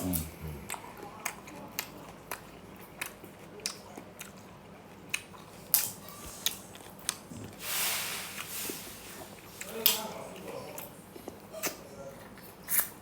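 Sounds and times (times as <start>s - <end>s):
person chewing crisp food: 0.0s - 13.0s.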